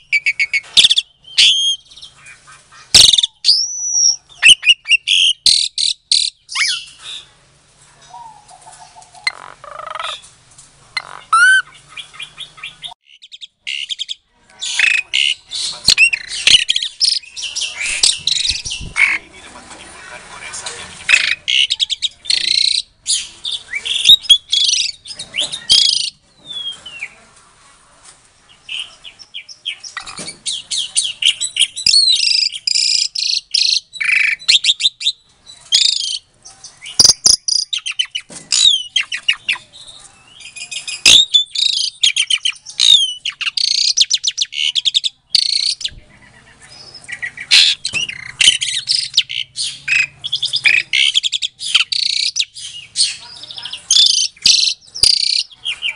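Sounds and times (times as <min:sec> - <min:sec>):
starling singing chattering notes: 0:08.0 - 0:27.2, 0:28.5 - 0:55.9.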